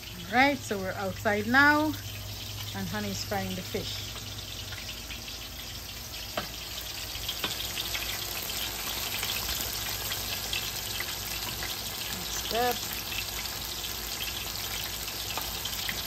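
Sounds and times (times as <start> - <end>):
fish deep-frying in oil: 0.0 - 16.0.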